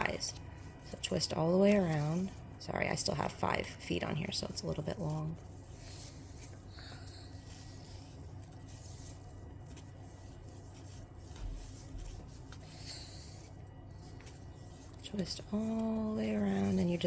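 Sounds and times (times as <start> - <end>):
ribbon rubbing and rustling: 0.0 - 17.0.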